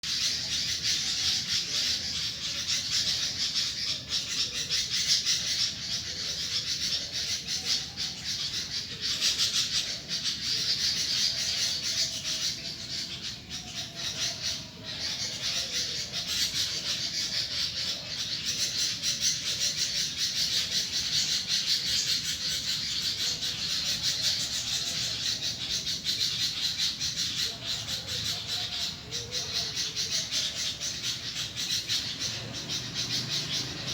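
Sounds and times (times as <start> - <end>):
bird chorus of high chirps: 0.0 - 33.9.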